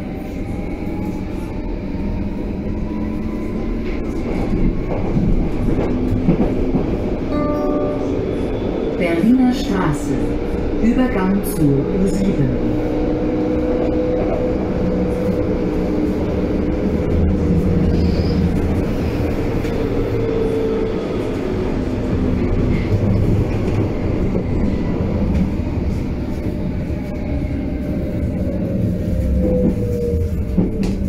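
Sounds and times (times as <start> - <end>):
train drive whine: 0.0 - 31.0
train wheels rumbling on track: 0.0 - 31.0.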